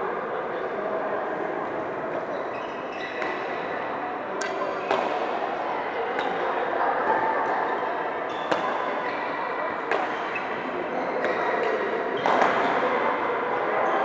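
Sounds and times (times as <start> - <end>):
background noise of players: 0.0 - 14.0.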